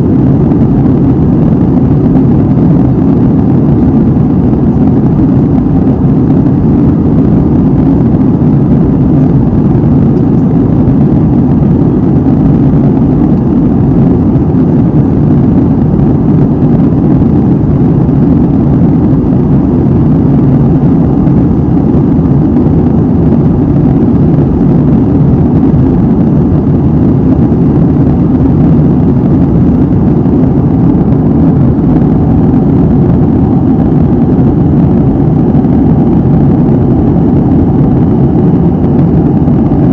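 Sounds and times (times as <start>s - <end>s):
airliner cabin engine rush: 0.0s - 39.9s.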